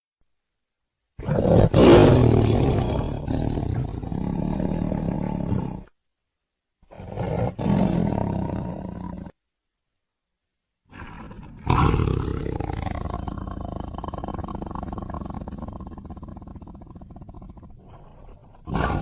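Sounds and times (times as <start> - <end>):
tiger roaring: 1.2 - 5.9, 6.9 - 9.4, 10.9 - 19.0.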